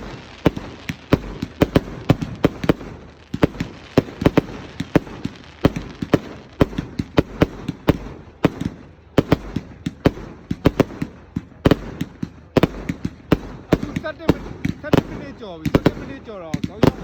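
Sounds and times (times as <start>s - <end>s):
fireworks bangs and crackles: 0.0s - 17.0s
low rumble of fireworks launches: 0.0s - 17.0s.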